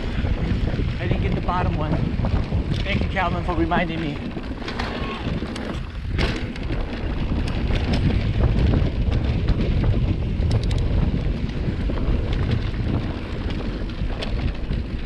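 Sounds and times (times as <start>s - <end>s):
bike rumbling on dirt trail: 0.0s - 15.0s
wind buffeting microphone: 0.0s - 15.0s
small clicks and rattles: 1.0s - 15.0s.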